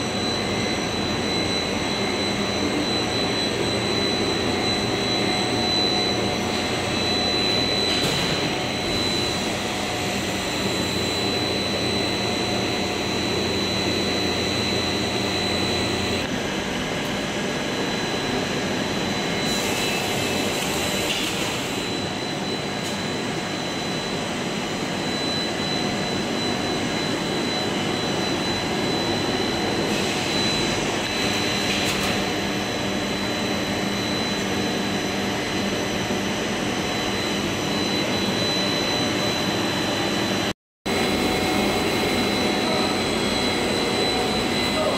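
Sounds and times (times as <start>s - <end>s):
constant high-pitched tone: 0.0s - 16.3s, 17.6s - 44.9s
machine hum and whine: 0.0s - 44.9s.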